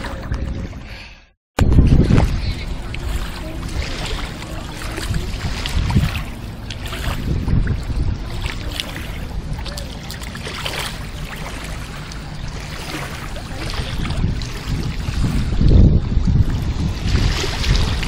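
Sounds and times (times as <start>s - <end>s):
wind rumbling on microphone: 0.0s - 18.0s
small waves lapping: 2.0s - 18.0s.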